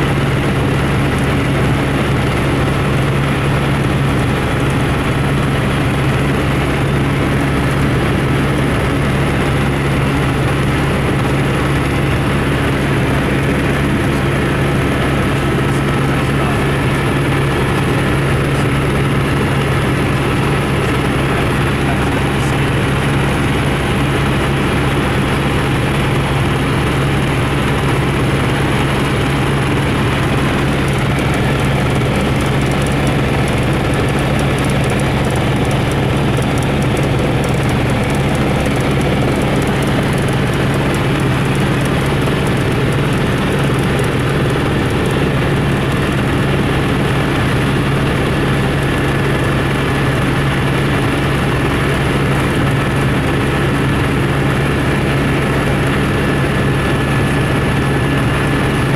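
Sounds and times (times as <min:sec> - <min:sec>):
light aircraft engine droning: 0:00.0 - 0:58.9.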